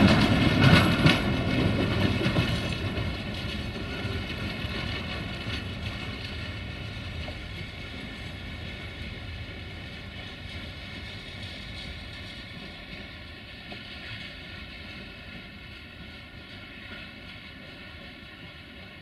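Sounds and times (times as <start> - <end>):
freight wagons rumbling on rails: 0.0 - 19.0.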